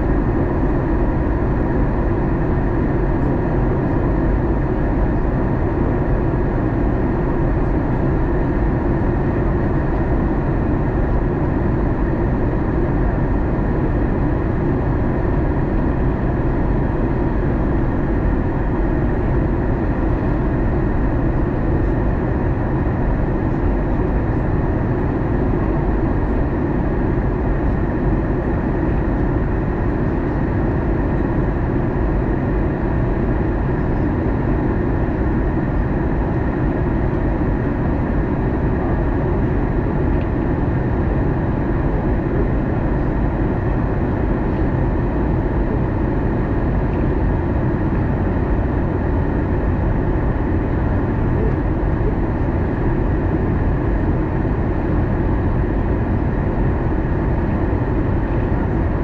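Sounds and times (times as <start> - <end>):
faint steady hum: 0.0 - 59.0
low rumble of engine and airflow: 0.0 - 59.0.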